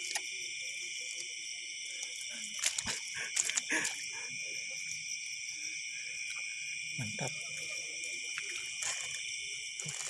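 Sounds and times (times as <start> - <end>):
night insects chorus: 0.0 - 10.0.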